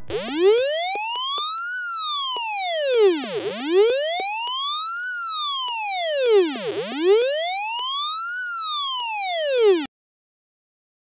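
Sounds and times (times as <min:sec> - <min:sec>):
siren-like square-wave tone: 0:00.0 - 0:09.9.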